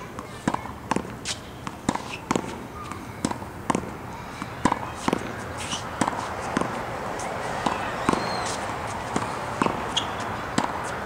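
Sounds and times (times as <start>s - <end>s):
racket striking tennis ball: 0.0s - 11.0s
ball bouncing on hard court: 0.1s - 6.8s, 7.6s - 11.0s.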